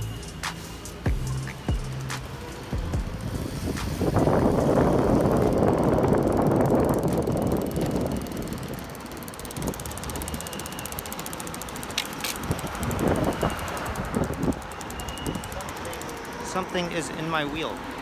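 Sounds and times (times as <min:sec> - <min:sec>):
fast even ticking: 0:00.9 - 0:18.0
skateboard wheels on asphalt: 0:01.5 - 0:18.0.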